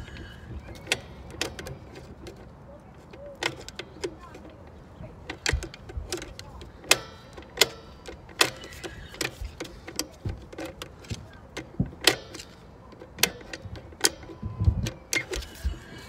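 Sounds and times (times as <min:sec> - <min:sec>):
brake adjuster clicking: 0:00.0 - 0:16.0.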